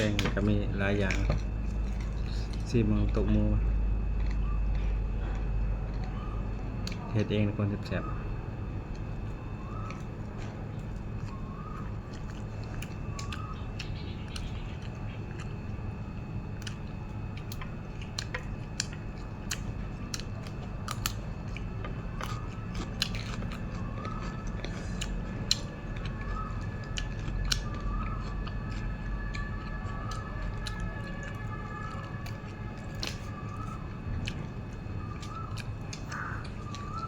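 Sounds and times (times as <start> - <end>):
steady low hum: 0.0 - 37.0
person chewing with mouth clicks: 4.1 - 7.1, 8.9 - 37.0.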